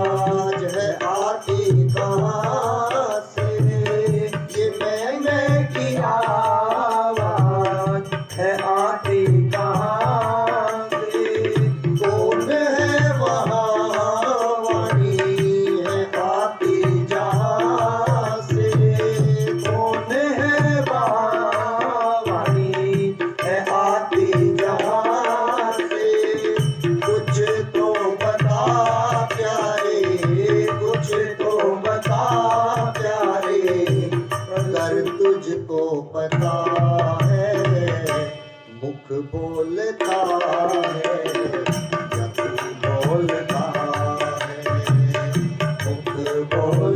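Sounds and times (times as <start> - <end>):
tabla rhythm: 0.0 - 46.9.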